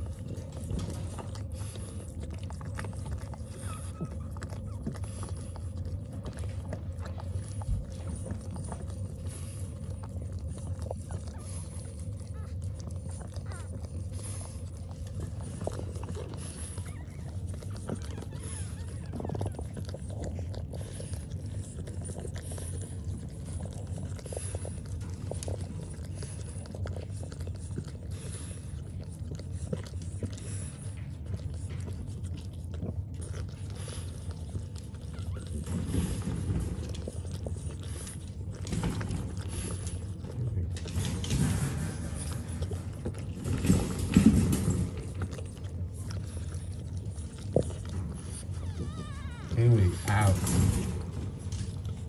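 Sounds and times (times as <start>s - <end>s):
puppies suckling: 0.0s - 52.0s.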